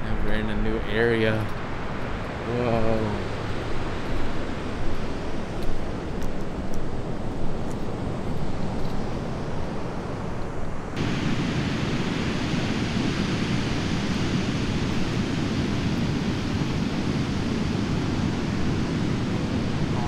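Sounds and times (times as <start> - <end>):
ocean surf: 0.0 - 20.0
wind on a beach: 0.0 - 20.0.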